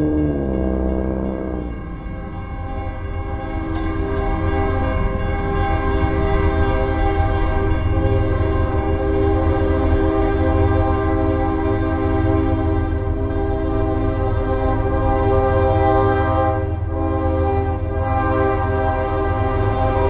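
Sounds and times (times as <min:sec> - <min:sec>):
locomotive air horn: 0:00.0 - 0:04.3, 0:05.8 - 0:20.0
locomotive engine rumble: 0:00.0 - 0:20.0.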